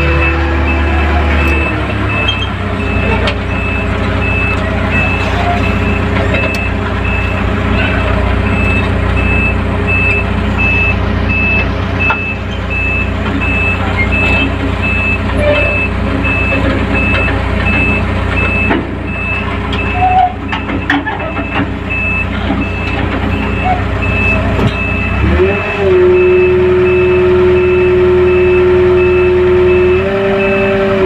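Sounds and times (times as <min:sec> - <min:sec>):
high warning beeps: 0:00.0 - 0:30.6
crane engine running: 0:00.0 - 0:31.0.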